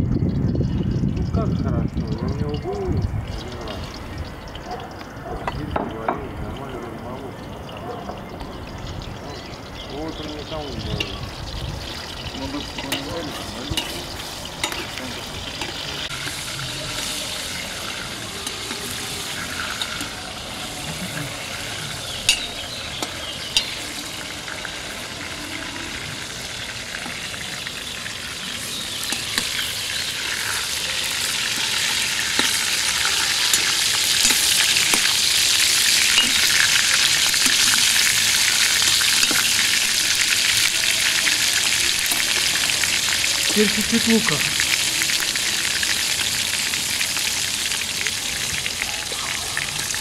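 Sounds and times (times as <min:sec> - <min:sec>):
meat sizzling in hot oil: 0:00.5 - 0:50.0.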